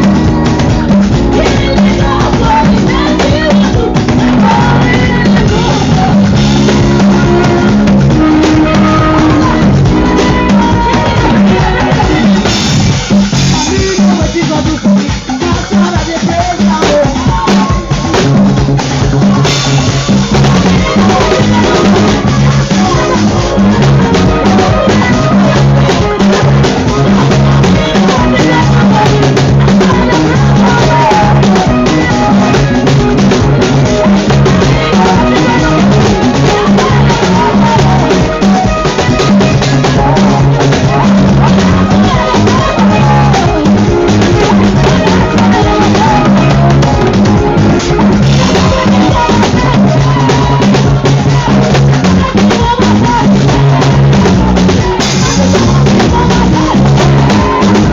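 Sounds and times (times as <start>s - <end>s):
heavy repeating bass line: 0.0s - 57.9s
loud music: 0.0s - 57.9s
steady drum kit beat: 0.0s - 57.9s.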